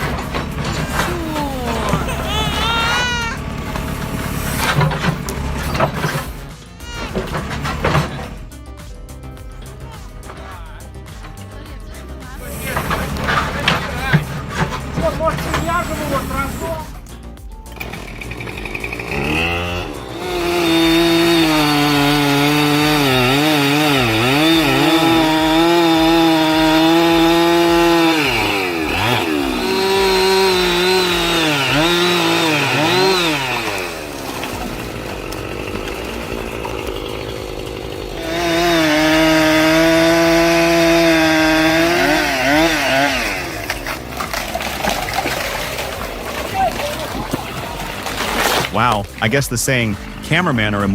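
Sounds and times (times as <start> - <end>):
chainsaw cutting wood: 0.0 - 8.8, 12.3 - 50.9.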